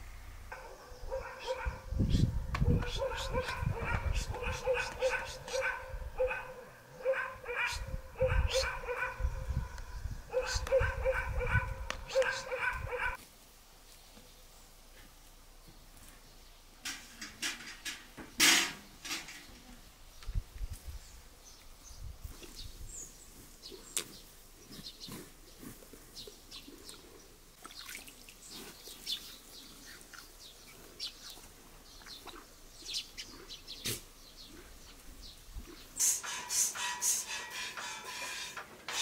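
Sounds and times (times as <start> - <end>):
small birds chirping: 0.5 - 13.1, 19.3 - 38.4.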